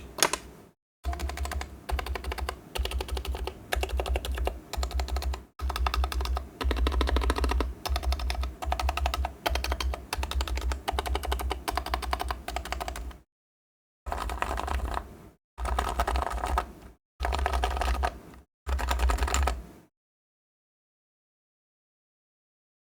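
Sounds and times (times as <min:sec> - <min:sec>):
keyboard typing: 0:00.0 - 0:13.2, 0:14.1 - 0:19.6.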